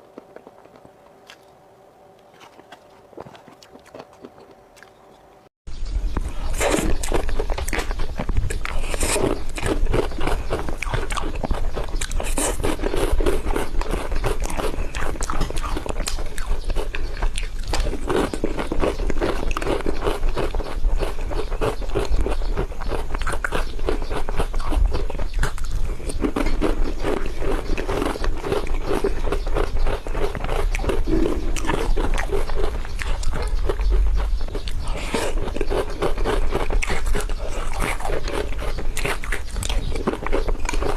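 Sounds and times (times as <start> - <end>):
person chewing and smacking: 0.0 - 1.5, 2.2 - 5.0, 6.1 - 40.9
steady low hum: 0.0 - 40.9.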